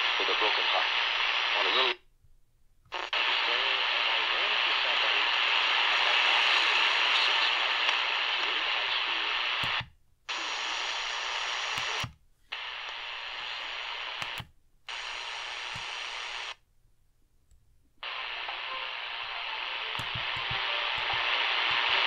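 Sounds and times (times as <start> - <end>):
radio static hiss: 0.0 - 2.0, 2.9 - 16.6, 18.0 - 22.0.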